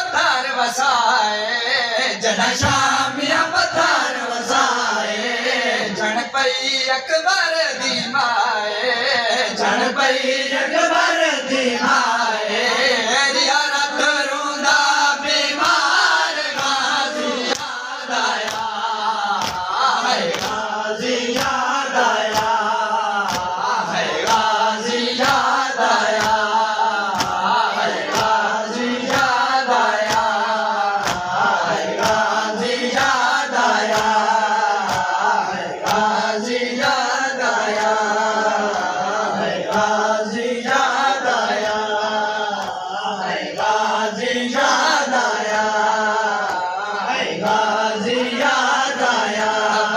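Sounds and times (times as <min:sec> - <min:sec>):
men chanting together: 0:00.0 - 0:49.9.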